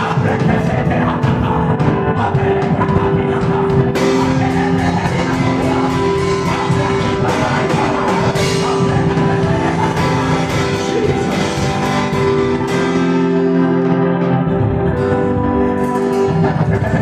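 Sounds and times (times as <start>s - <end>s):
drums beating: 0.0s - 13.7s, 14.4s - 17.0s
held chords: 0.0s - 17.0s.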